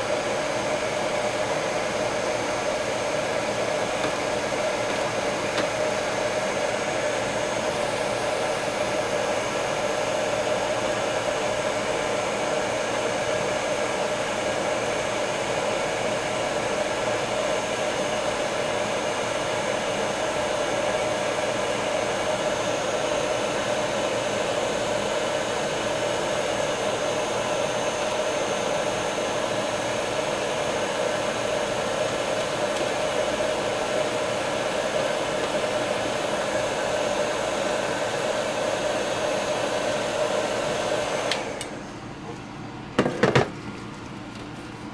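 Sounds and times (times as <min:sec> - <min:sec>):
heat gun blowing air: 0:00.0 - 0:42.0
motor hum with high whine: 0:00.0 - 0:44.9.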